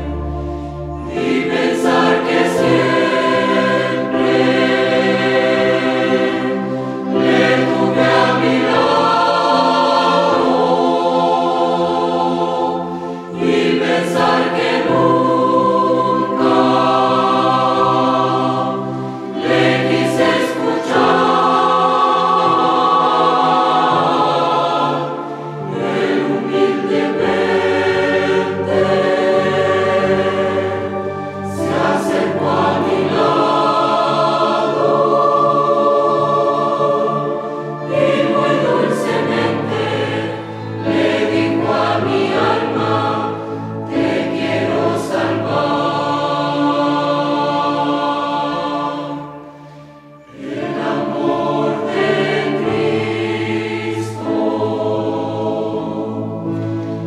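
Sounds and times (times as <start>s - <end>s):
keyboard accompaniment: 0.0s - 57.0s
youth choir singing a hymn: 0.0s - 57.0s.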